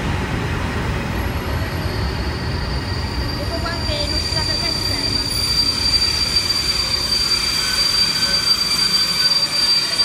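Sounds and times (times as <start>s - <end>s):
rumble of train wagons: 0.0s - 10.0s
train wheels squealing: 1.2s - 10.0s.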